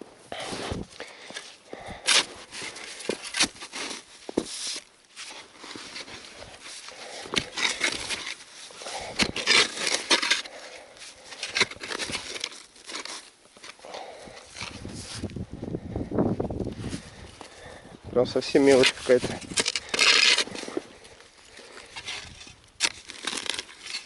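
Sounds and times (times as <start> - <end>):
digging in snow and soil: 0.0 - 24.0.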